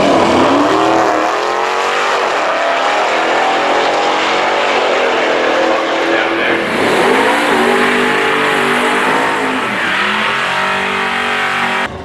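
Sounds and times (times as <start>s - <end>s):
race car engine accelerating: 0.0s - 12.0s.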